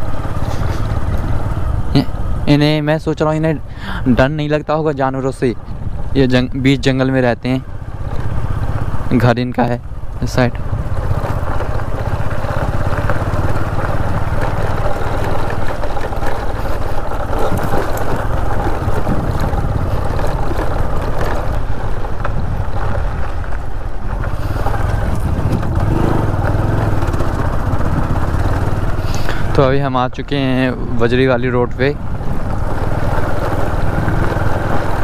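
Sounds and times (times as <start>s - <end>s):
motorcycle engine running: 0.0s - 35.0s
road noise: 0.0s - 35.0s.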